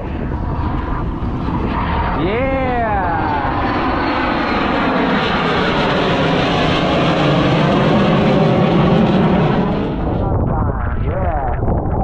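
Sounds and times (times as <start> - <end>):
jet engines roaring overhead: 0.0 - 12.0.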